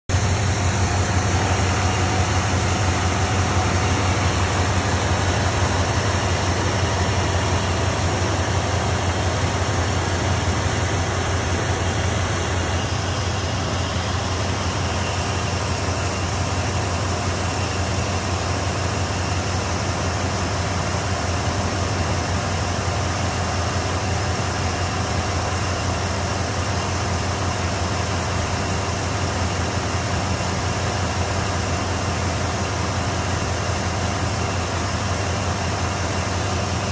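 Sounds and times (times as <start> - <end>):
pickup engine idling: 0.0 - 36.9.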